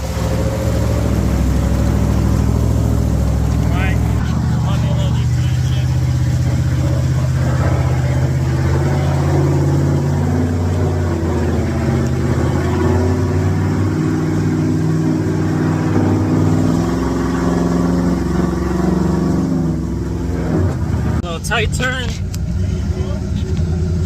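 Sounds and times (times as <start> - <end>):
truck engine under load: 0.0 - 24.0.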